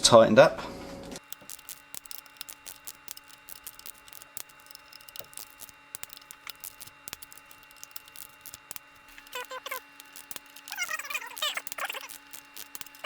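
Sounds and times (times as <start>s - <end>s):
ratcheting torque wrench clicks: 1.2s - 13.0s.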